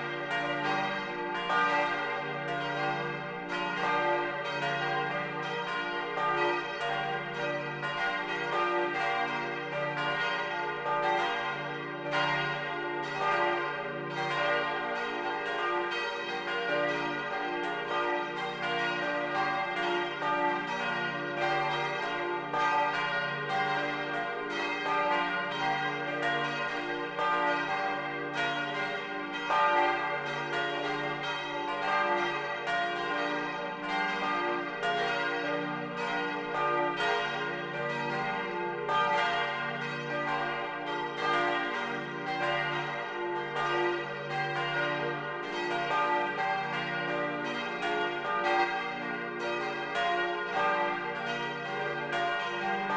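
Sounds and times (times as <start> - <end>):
church bells ringing in peal: 0.0 - 52.9.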